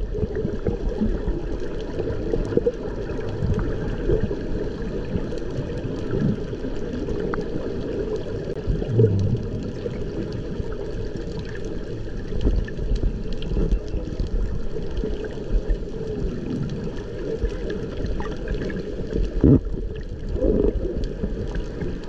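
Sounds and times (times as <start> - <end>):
underwater rushing and gurgling: 0.0 - 22.0.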